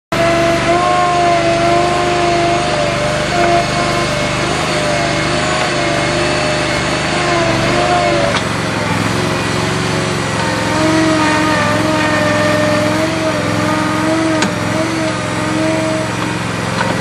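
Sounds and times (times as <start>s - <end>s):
hydraulic whine: 0.1s - 17.0s
loader engine running: 0.1s - 17.0s.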